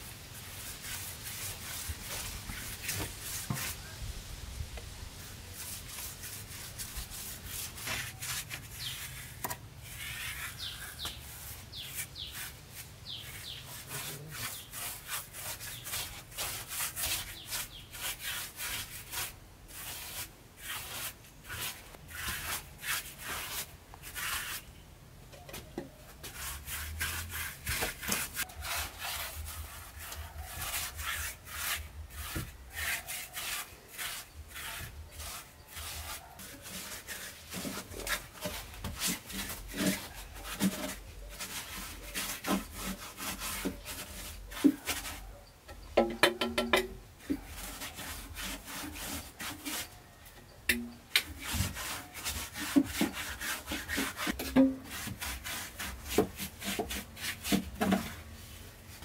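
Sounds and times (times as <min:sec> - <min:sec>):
hand tool scraping wood: 0:00.4 - 0:03.9, 0:05.6 - 0:24.7, 0:25.5 - 0:45.4, 0:46.0 - 0:59.0.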